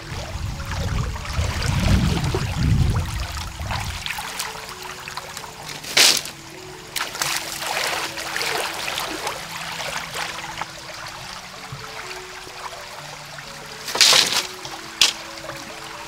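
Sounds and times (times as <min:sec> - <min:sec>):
water sloshing from wading: 0:00.0 - 0:16.0.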